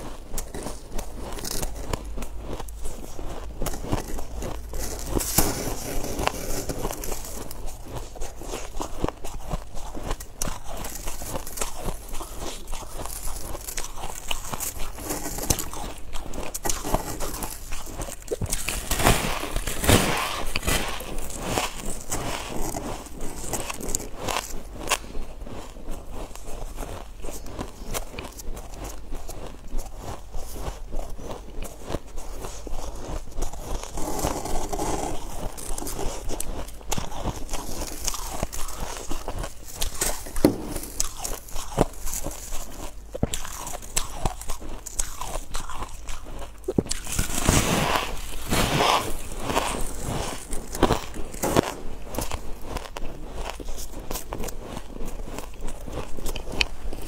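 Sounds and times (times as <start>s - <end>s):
crunchy ice chewing: 0.0s - 57.0s.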